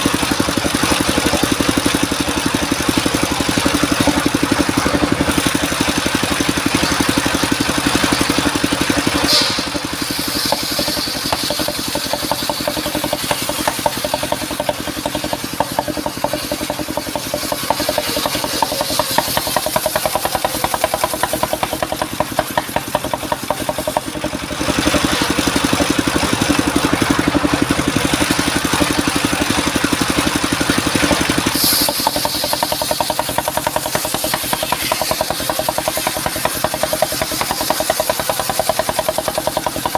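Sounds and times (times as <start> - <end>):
saw blade cutting wood: 0.0 - 39.9
sawmill engine running: 0.0 - 39.9.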